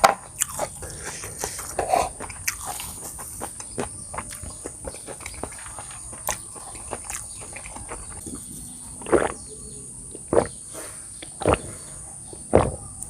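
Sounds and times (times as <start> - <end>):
soft chewing clicks: 0.0 - 10.6.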